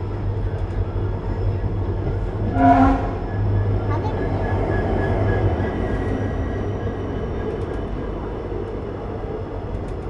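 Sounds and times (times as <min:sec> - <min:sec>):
diesel locomotive engine hum: 0:00.0 - 0:10.0
train coaches rolling by: 0:00.0 - 0:10.0.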